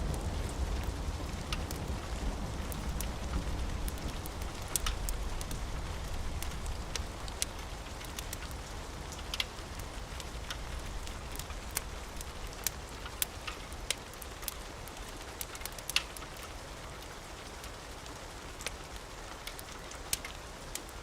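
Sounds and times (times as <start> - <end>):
steady rain: 0.0 - 21.0
wood fire crackling and popping: 0.0 - 21.0.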